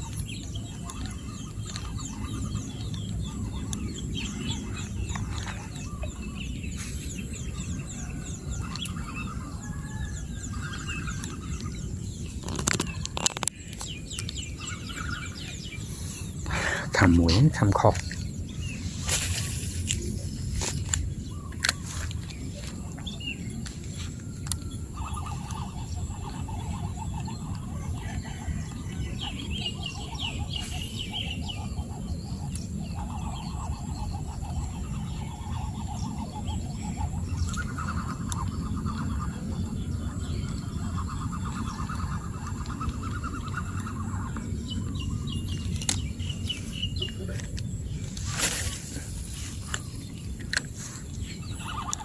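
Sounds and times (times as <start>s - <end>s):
animals calling in pulsed trills: 0.0s - 19.2s, 20.0s - 52.0s.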